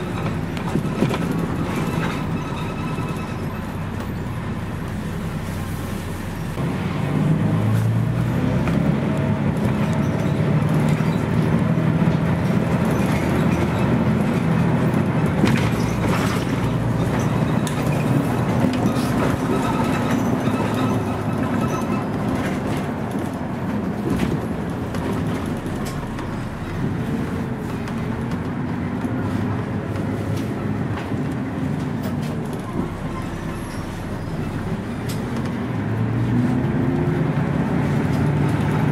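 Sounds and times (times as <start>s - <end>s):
bus diesel engine running: 0.0s - 38.9s
road and body noise: 0.0s - 38.9s.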